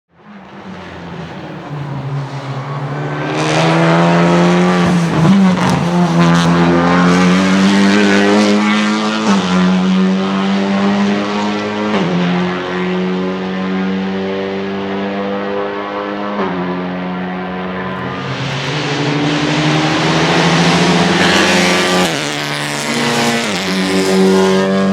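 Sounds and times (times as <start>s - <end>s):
race car engine accelerating: 0.2s - 24.9s.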